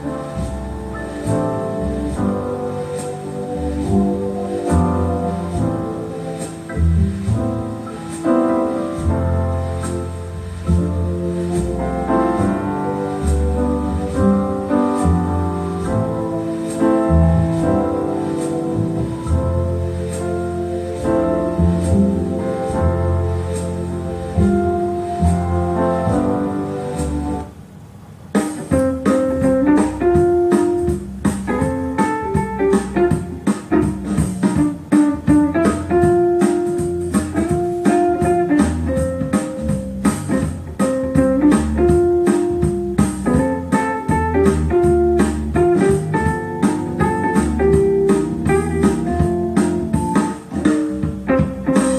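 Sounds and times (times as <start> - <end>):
piano-led music with bass and beat: 0.0 - 51.9.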